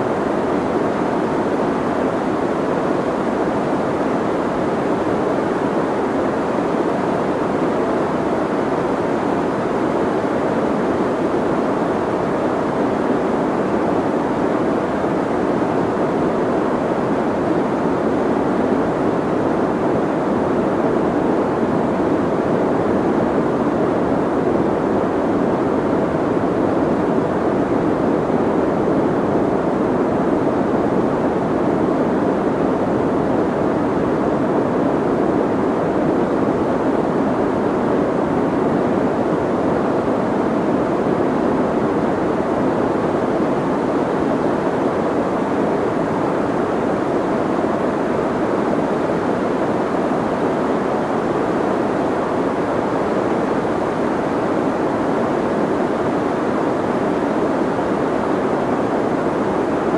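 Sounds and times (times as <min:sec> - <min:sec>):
soft white noise hiss: 0:00.0 - 0:59.9.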